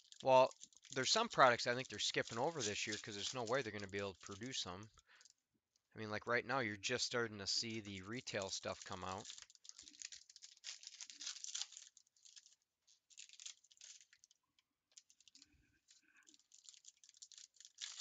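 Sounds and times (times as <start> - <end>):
wrappers crinkling and tearing: 0.0 - 5.3, 6.9 - 18.0.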